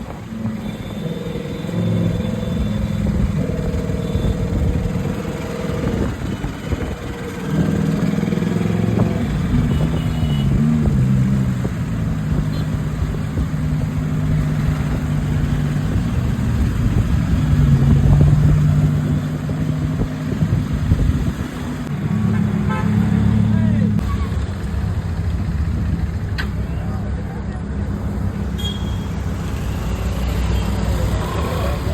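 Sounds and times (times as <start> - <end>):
road noise: 0.0 - 31.9
vehicle engine hum: 0.0 - 31.9.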